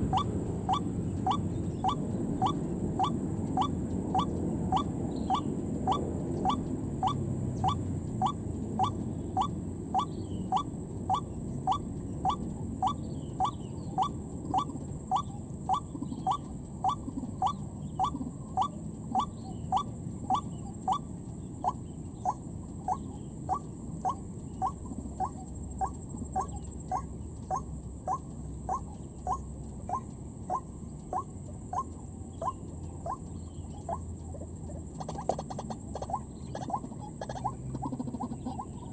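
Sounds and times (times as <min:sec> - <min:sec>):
waterhen call: 0:00.0 - 0:38.9.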